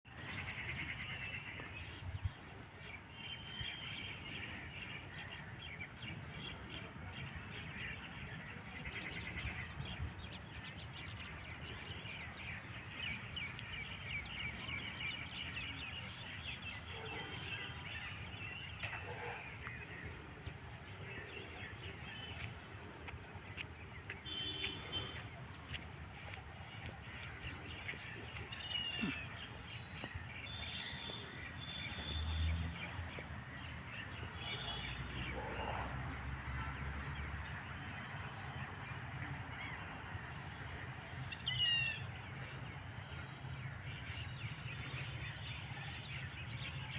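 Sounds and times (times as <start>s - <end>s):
birds chirping and calling: 0.1s - 46.9s.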